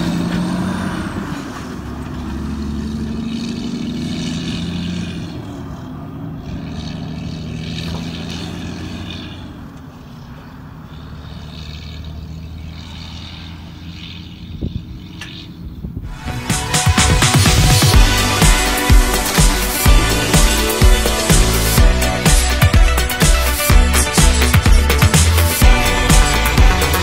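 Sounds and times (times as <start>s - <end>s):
truck diesel engine drone: 0.0s - 27.0s.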